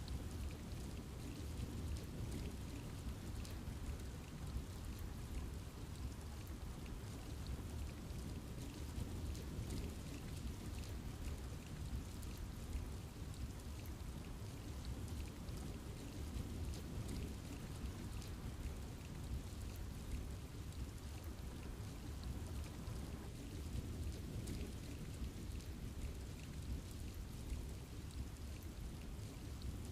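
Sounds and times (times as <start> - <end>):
rain falling in forest: 0.0 - 29.9
raindrops pattering: 0.0 - 29.9.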